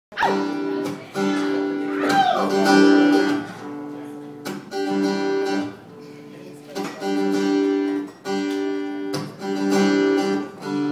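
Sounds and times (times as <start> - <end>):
acoustic guitar strumming chords: 0.1 - 10.9.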